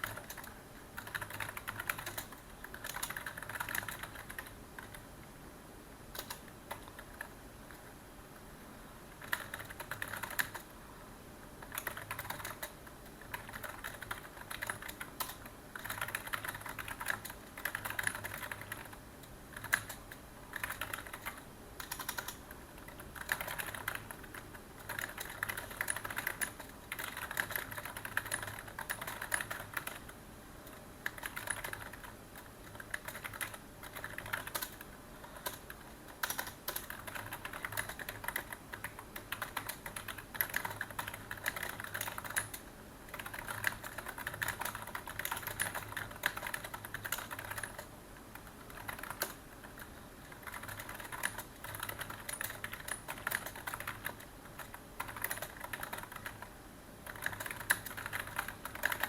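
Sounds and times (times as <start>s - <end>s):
keyboard typing: 0.0s - 5.1s, 6.1s - 7.9s, 9.1s - 10.8s, 11.6s - 59.0s.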